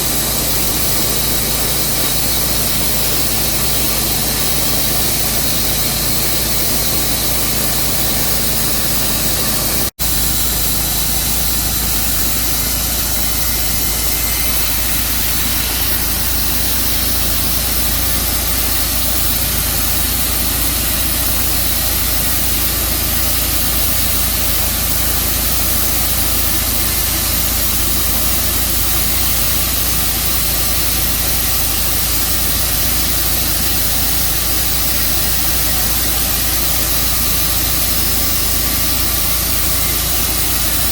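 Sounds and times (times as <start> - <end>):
loud hiss: 0.0 - 40.9
sawmill engine drone: 0.0 - 40.9.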